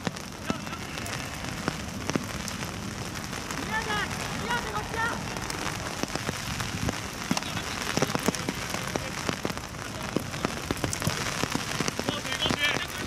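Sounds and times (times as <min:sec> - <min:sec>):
raindrops tapping near microphone: 0:00.0 - 0:13.0
steady rain: 0:00.0 - 0:13.0.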